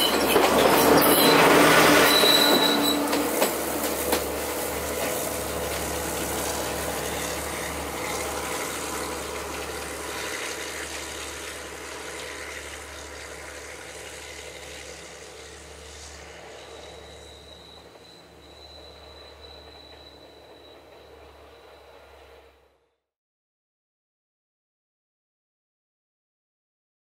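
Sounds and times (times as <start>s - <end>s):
train rumbling on rails: 0.0s - 22.8s.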